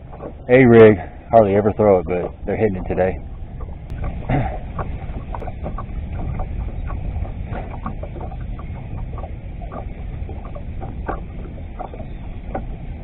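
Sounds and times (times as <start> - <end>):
water lapping against hull: 0.0 - 13.0
wind rumbling on microphone: 0.0 - 13.0.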